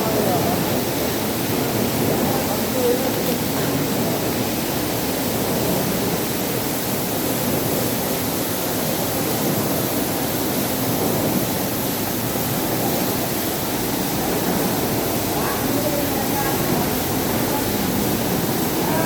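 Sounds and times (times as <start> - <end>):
washing machine rushing water: 0.0 - 19.0.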